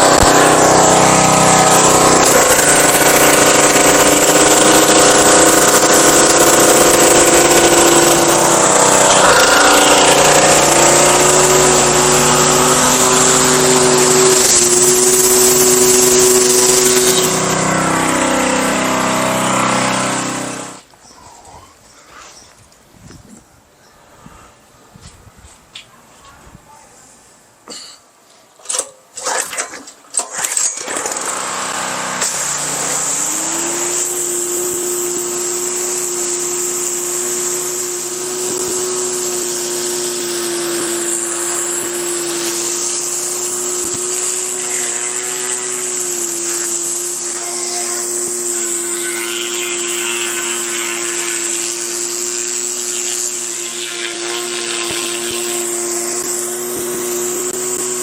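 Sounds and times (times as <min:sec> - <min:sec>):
pressure washer engine running: 0:00.0 - 0:20.8, 0:30.2 - 0:58.0.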